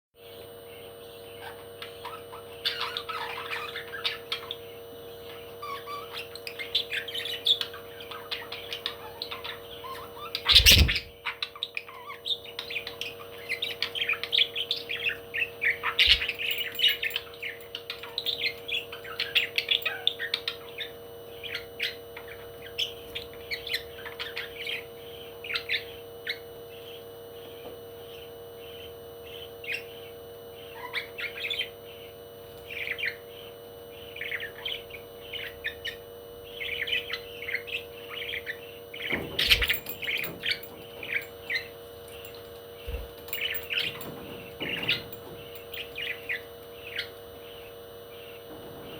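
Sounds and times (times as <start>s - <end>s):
steady hum: 0.2s - 48.9s
parrots chirping and squawking: 1.2s - 27.0s, 29.6s - 48.9s.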